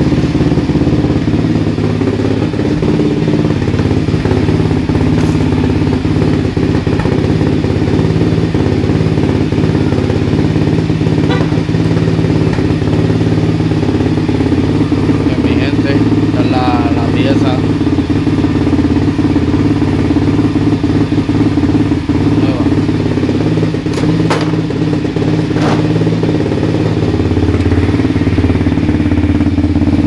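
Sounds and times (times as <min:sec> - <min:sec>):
quad engine idling: 0:00.0 - 0:30.0.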